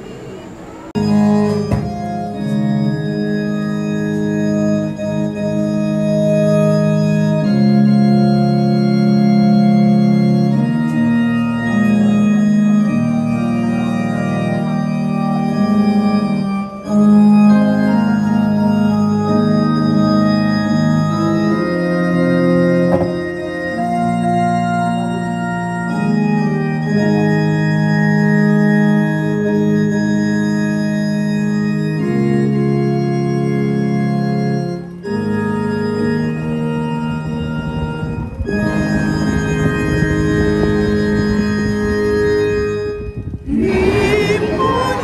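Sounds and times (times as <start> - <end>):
organ chords over loudspeakers: 0.4 - 45.0.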